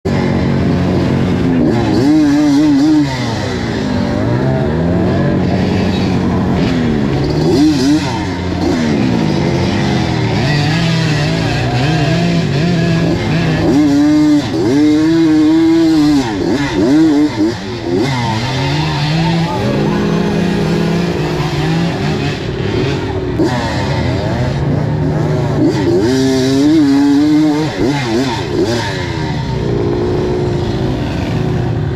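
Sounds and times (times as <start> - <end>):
two-stroke motorcycle engine revving: 0.0 - 31.9.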